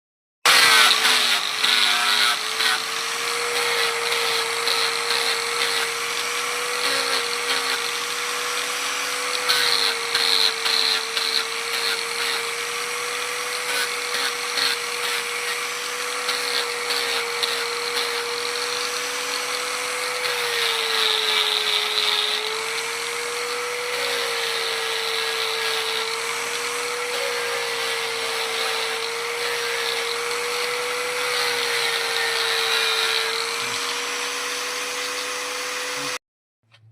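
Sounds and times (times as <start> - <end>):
power tool motor hum: 0.5 - 36.2.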